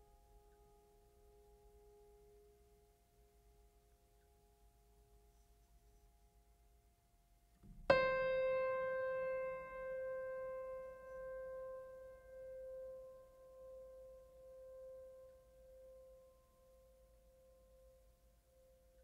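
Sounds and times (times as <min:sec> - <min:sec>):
faint held music tones: 0:00.0 - 0:19.0.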